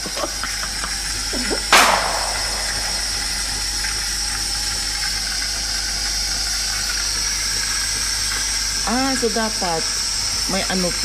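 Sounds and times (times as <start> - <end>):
coffee machine steam hissing: 0.0 - 11.0.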